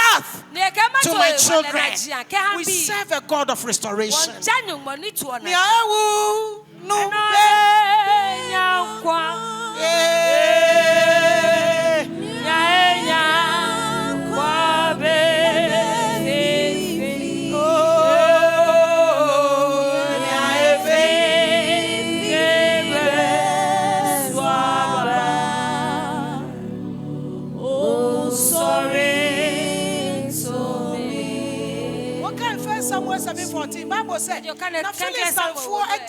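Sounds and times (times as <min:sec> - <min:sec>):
solo gospel singing with vibrato: 0:00.0 - 0:36.0
soft backing voices or keyboard: 0:02.6 - 0:35.8.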